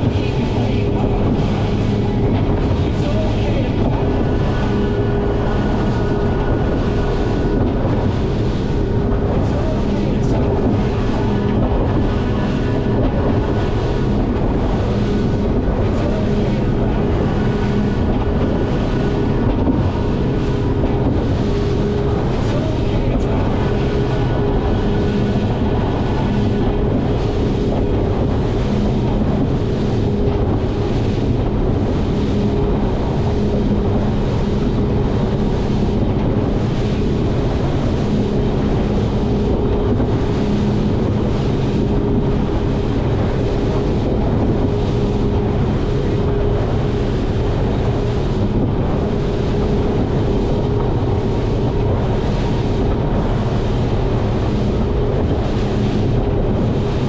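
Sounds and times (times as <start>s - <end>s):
outboard engines humming: 0.0s - 57.0s
water rushing along hull: 0.0s - 57.0s
wind on microphone: 0.0s - 57.0s.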